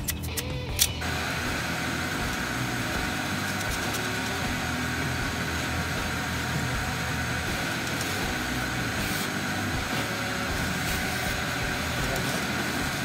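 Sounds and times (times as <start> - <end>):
shop vacuum sucking debris: 1.0 - 13.0.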